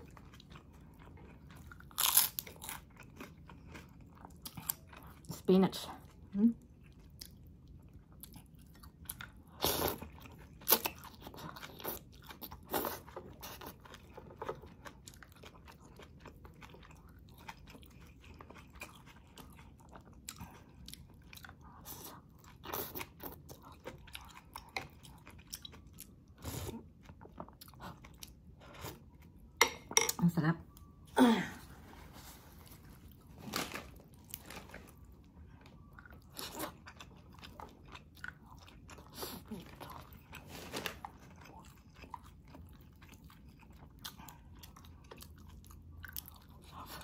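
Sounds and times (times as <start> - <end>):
person chewing food: 0.0 - 5.4, 6.1 - 30.0, 32.2 - 47.0.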